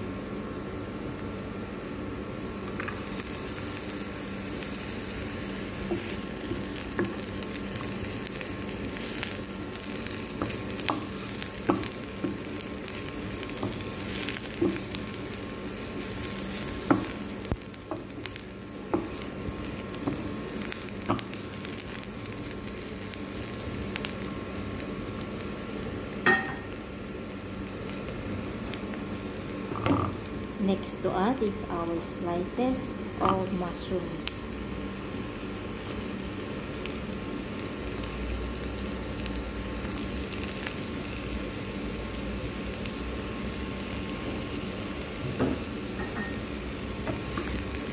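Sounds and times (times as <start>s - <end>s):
onions sizzling in a frying pan: 0.0s - 47.9s.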